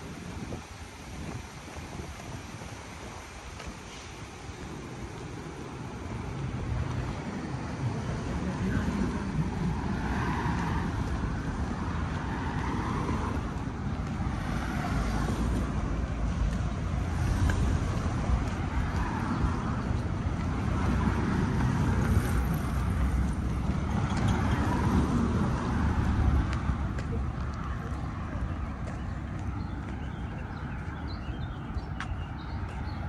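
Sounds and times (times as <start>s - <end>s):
low traffic rumble: 0.0s - 33.0s
vehicles passing: 0.0s - 33.0s.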